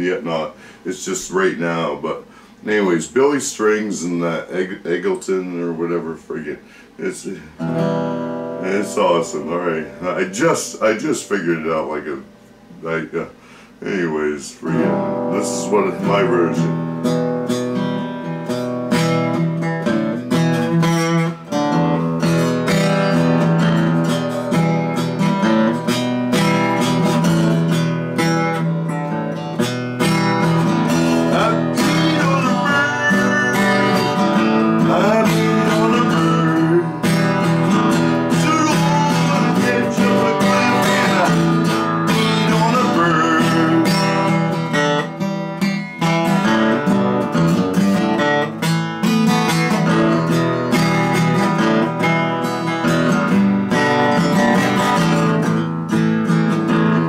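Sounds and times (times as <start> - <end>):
acoustic guitar strumming and picking: 0.0 - 57.0.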